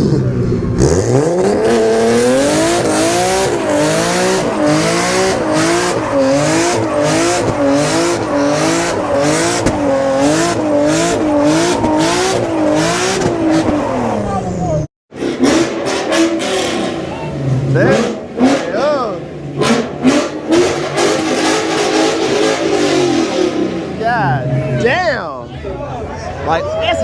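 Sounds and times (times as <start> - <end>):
car engine revving high: 0.0 - 24.9.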